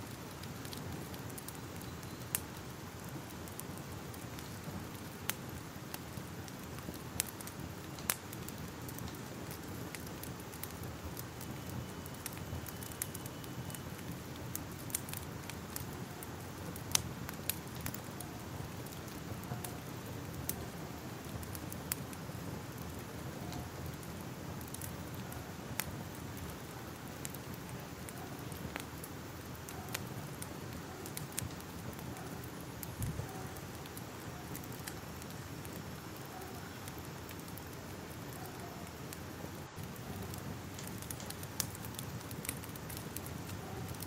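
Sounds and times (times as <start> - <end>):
fire crackling: 0.0 - 44.0.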